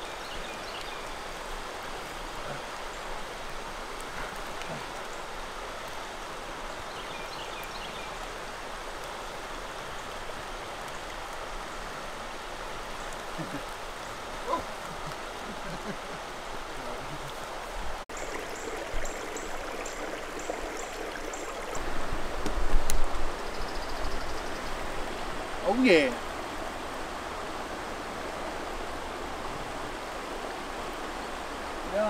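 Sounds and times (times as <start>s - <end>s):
creek water flowing: 0.0s - 32.0s.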